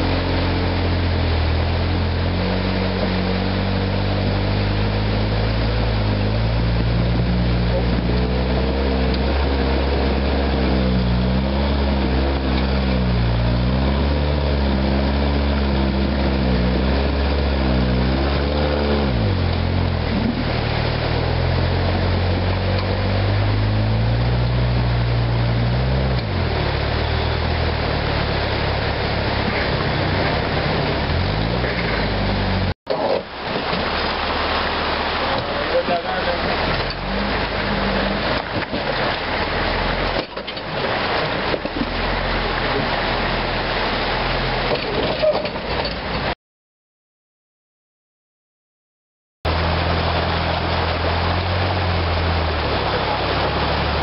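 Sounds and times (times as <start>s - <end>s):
buggy engine revving: 0.0s - 46.4s, 49.5s - 54.0s
stream water rushing: 0.0s - 46.4s, 49.5s - 54.0s.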